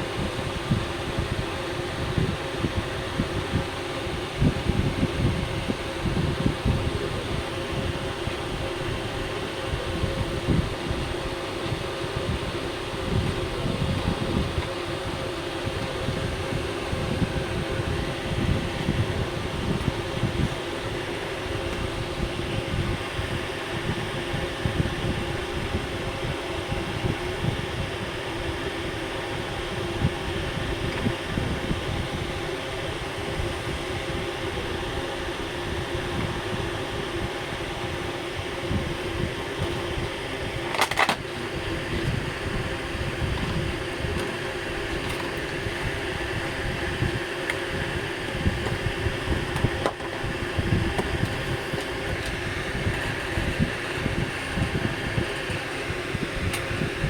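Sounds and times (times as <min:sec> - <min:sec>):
mechanical fan hum: 0:00.0 - 0:57.0.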